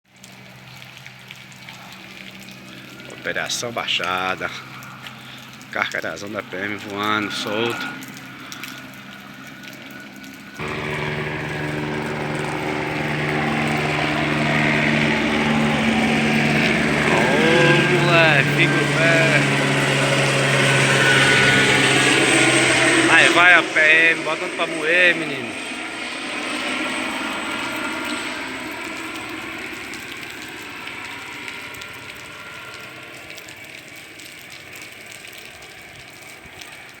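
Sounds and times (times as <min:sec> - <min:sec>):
helicopter flying overhead: 0:00.2 - 0:37.0.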